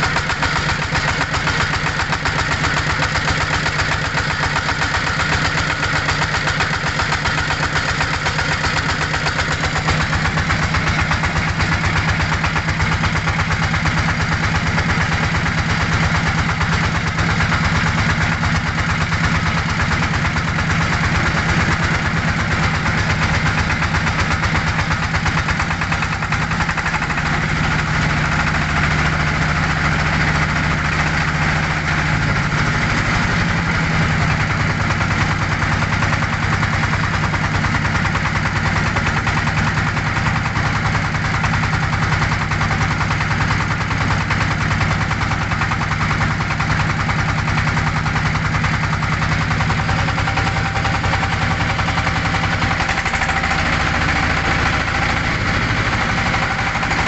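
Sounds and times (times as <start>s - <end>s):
motorboat engine running: 0.0s - 57.0s.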